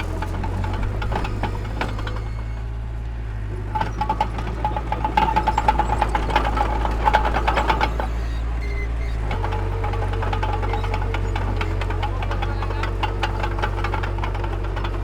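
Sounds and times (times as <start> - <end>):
diesel engine low drone: 0.0 - 15.0
metallic clatter with squeaking: 0.0 - 15.0.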